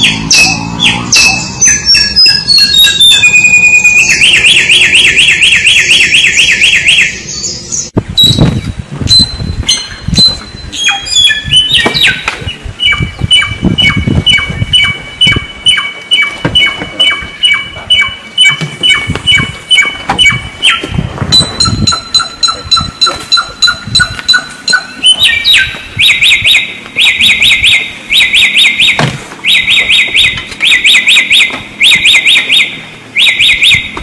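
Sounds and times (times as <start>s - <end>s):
low rumbling background noise: 0.0s - 34.0s
songbird trilling and whistling: 0.0s - 34.0s.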